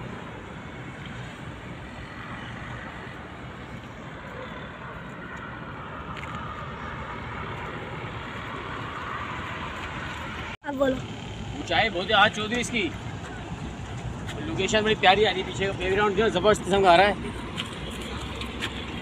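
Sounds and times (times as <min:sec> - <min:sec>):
highway traffic noise: 0:00.0 - 0:19.0
truck passing: 0:00.0 - 0:19.0.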